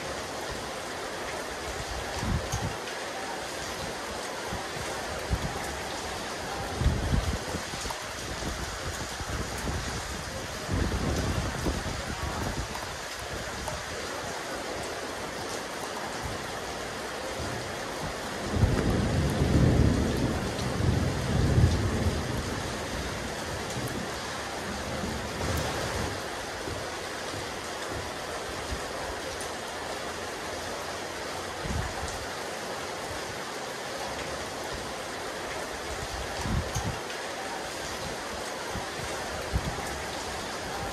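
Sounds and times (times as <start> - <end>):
rain on a rooftop: 0.0 - 40.9.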